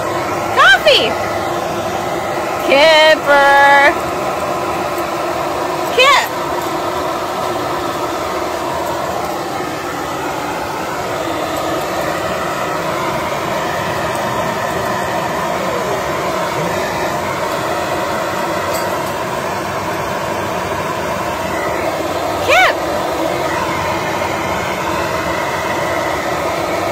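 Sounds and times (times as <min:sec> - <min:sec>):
vacuum cleaner motor whirring: 0:00.0 - 0:26.9.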